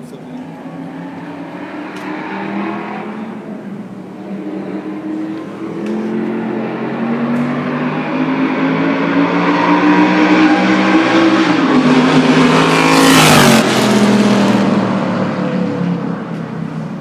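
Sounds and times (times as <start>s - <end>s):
race car engine passing by: 0.0s - 17.0s.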